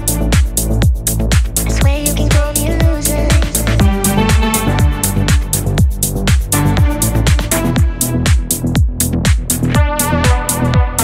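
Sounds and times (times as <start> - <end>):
electronic dance music: 0.0 - 11.0
held synth chords: 0.0 - 11.0
hi-hats: 0.0 - 11.0
kick drum beat: 0.0 - 11.0.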